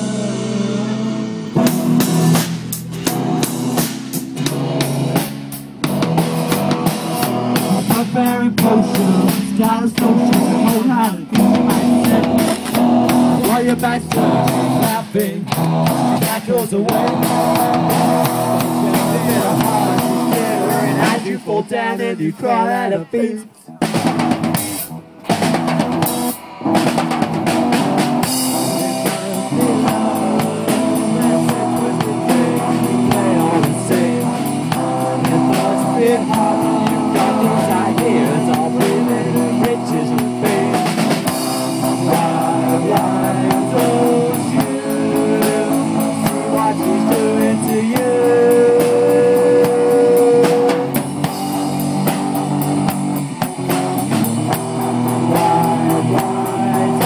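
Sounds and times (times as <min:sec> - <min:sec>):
live rock band playing: 0:00.0 - 0:22.8, 0:23.8 - 0:57.0.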